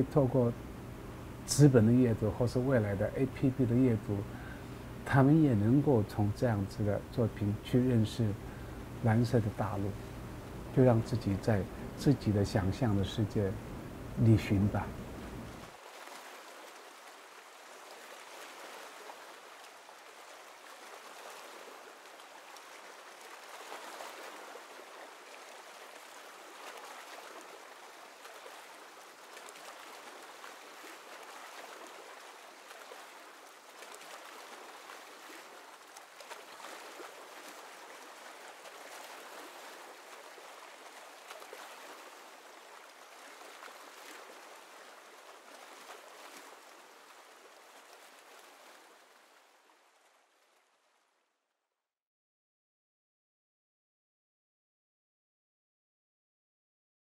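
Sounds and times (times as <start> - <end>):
faint rush of water: 0.0 - 51.6.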